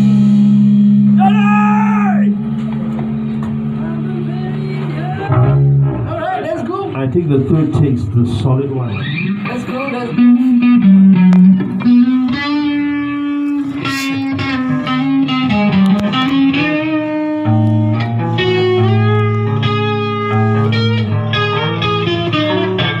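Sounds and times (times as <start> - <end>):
electric guitar melody: 0.0 - 23.0.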